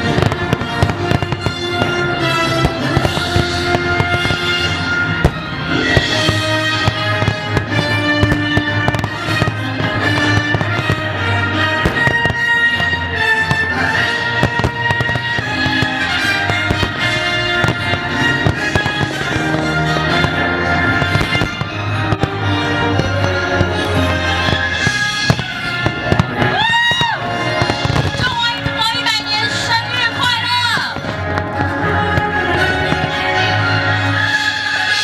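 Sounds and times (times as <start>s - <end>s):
fireworks banging: 0.0s - 35.0s
loud music: 0.0s - 35.0s.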